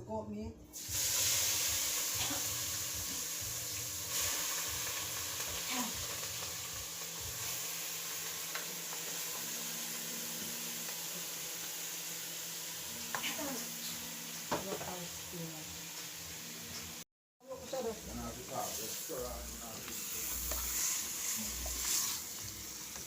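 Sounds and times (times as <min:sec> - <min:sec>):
meat sizzling in a pot: 0:00.7 - 0:23.0.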